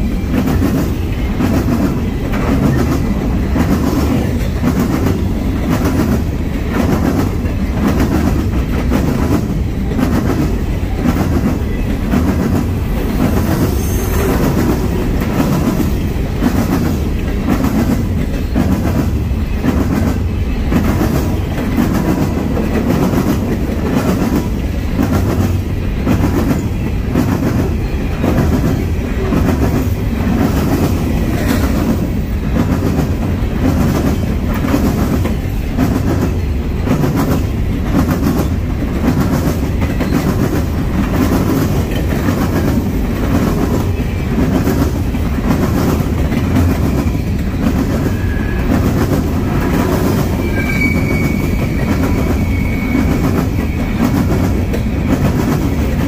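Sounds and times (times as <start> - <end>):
freight train rumbling past: 0.0 - 56.0
train wheels clicking: 0.0 - 56.0.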